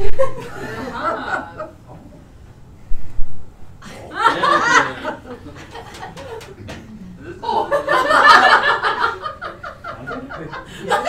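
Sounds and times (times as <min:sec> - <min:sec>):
people laughing: 0:00.0 - 0:02.1, 0:03.8 - 0:11.0.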